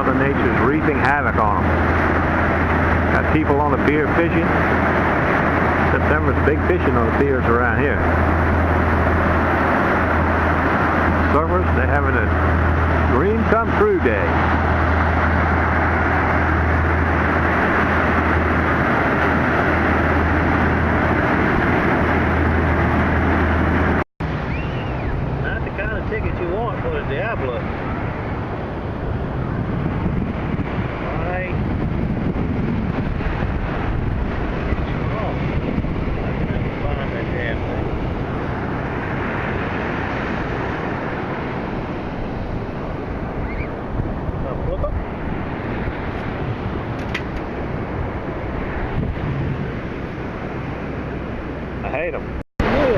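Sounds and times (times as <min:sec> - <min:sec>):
heavy surf: 0:00.0 - 0:52.9
wind rumbling on microphone: 0:00.0 - 0:52.9.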